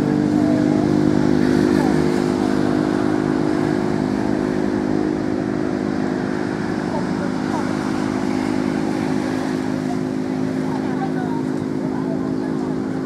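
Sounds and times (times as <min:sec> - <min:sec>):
motor engine running: 0:00.0 - 0:13.0.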